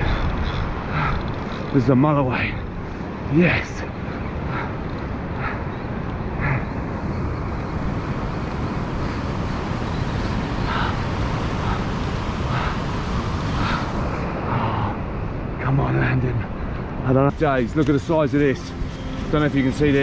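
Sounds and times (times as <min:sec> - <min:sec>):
surf washing: 0:00.0 - 0:20.0
wind on microphone: 0:00.0 - 0:20.0.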